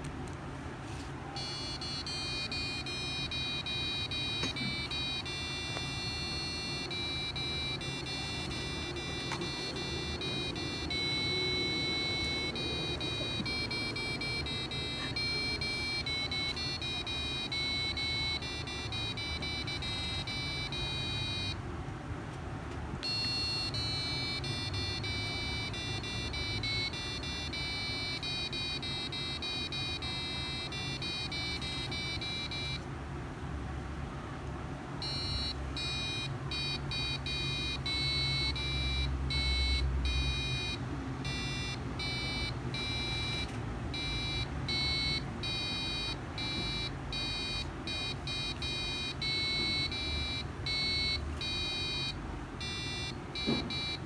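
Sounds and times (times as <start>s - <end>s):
piezo buzzer beeping melody: 1.4s - 21.6s, 23.0s - 32.8s, 35.0s - 54.0s.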